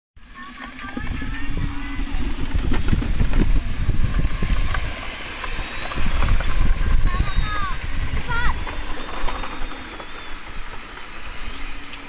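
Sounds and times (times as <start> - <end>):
small electric motors whining: 0.2 - 12.0
low rumble and knocking: 0.5 - 11.1.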